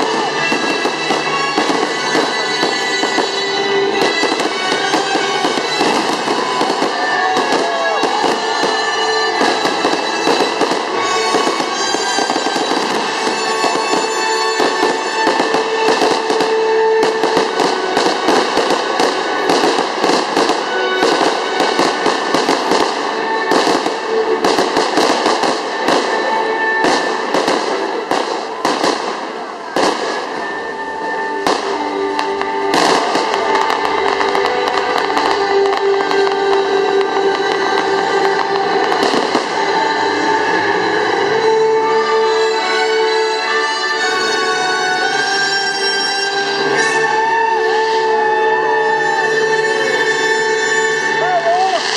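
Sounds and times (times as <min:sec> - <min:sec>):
fireworks bangs and crackles: 0:00.0 - 0:51.9
music playing: 0:00.0 - 0:51.9.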